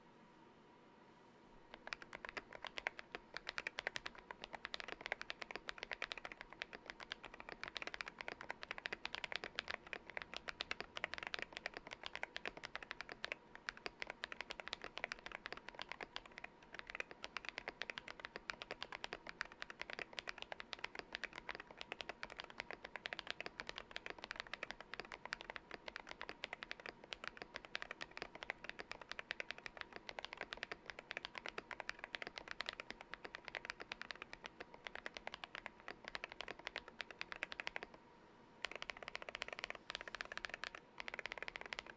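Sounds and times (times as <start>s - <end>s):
mechanical keyboard typing: 1.7s - 38.0s, 38.6s - 41.9s.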